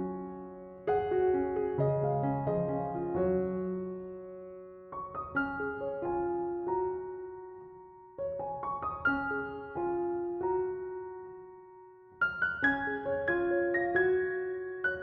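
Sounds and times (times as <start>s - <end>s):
soft solo piano: 0.0s - 15.0s.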